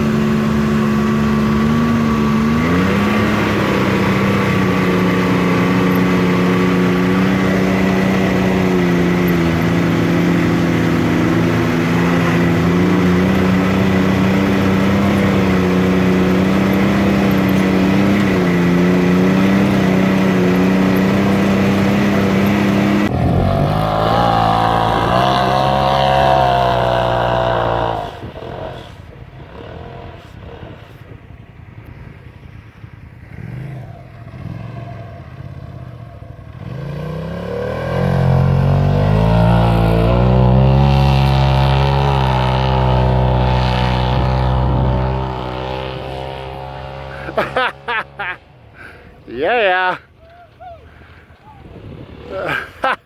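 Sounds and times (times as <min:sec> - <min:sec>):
side-by-side engine running and revving: 0:00.0 - 0:49.3, 0:50.9 - 0:53.0.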